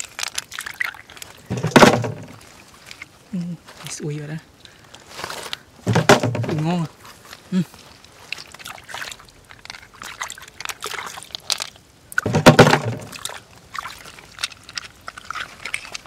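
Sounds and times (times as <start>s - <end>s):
hands squelching through wet mud: 0.0s - 16.0s
small crackles: 0.0s - 16.0s.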